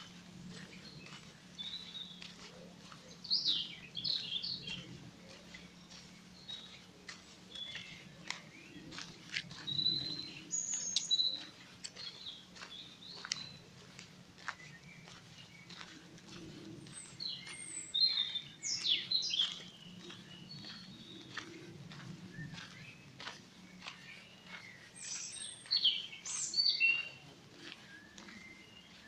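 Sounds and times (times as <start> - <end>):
birds singing and chirping: 0.0 - 29.0
footsteps crunching on dirt path: 0.0 - 29.0.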